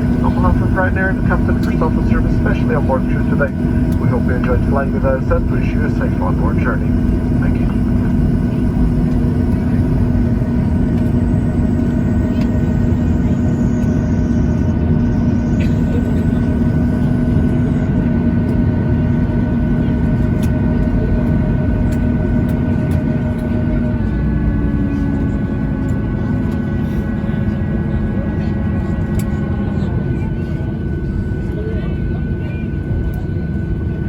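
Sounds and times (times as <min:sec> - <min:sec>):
jet engines idling from cabin: 0:00.0 - 0:34.0.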